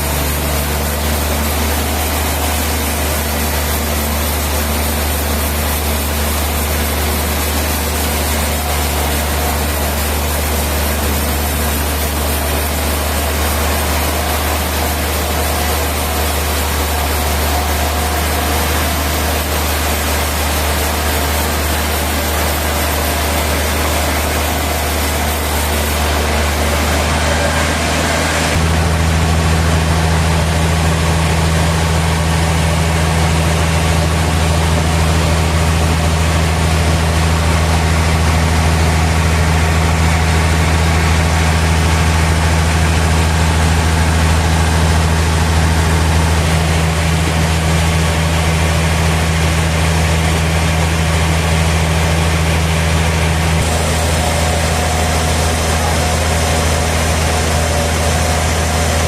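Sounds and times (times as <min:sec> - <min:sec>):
higher machine tone: 0:00.0 - 0:59.0
sawmill machinery humming: 0:00.0 - 0:59.0.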